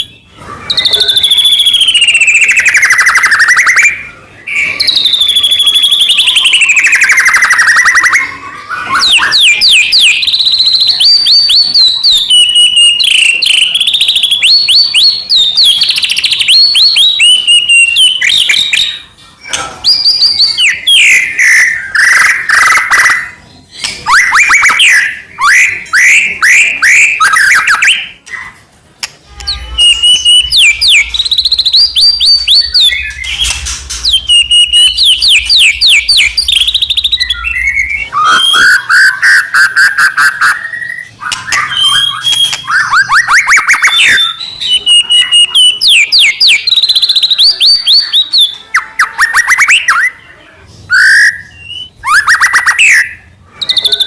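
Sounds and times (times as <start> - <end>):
bird singing whistles and trills: 0.0 - 19.1, 19.8 - 28.5, 29.4 - 50.2, 50.9 - 54.0.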